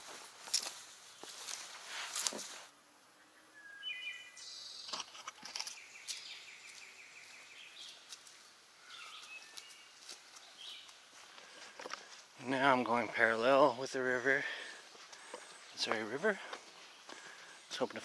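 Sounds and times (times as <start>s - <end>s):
footsteps in wet mud: 0.0s - 2.7s, 5.3s - 18.0s
songbirds chirping: 0.0s - 18.0s.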